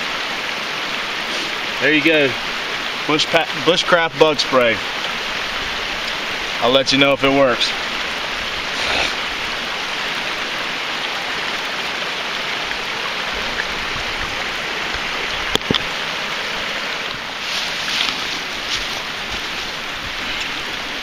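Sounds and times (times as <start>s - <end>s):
creek rushing: 0.0s - 21.0s.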